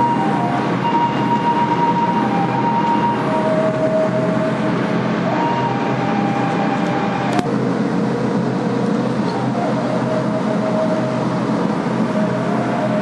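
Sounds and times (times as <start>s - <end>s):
faint whining tones: 0.0s - 13.0s
steady droning noise: 0.0s - 13.0s.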